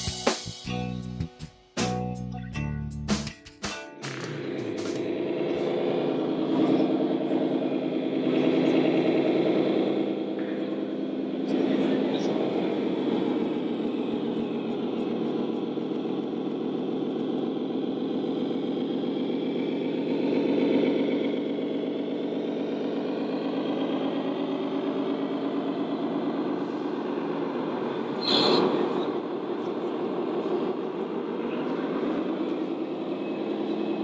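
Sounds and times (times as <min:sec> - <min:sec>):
simulated diesel engine sound: 0:03.9 - 0:34.0.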